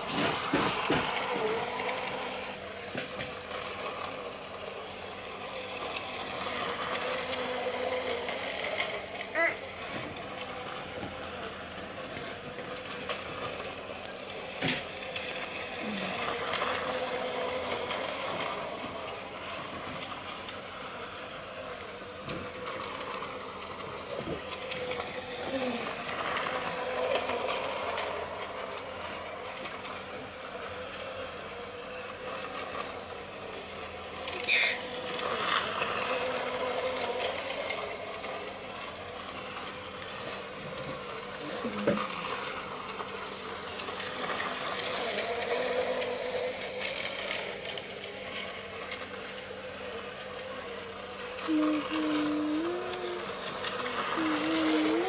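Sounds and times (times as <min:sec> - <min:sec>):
toy train motor whirring: 0:00.0 - 0:55.0.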